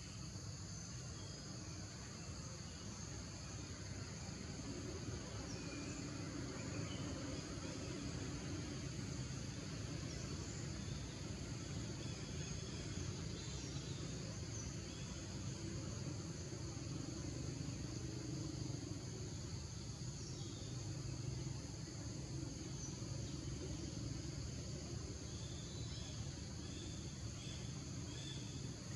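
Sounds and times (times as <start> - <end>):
insects droning: 0.0 - 28.9
low steady rumble: 0.2 - 28.9.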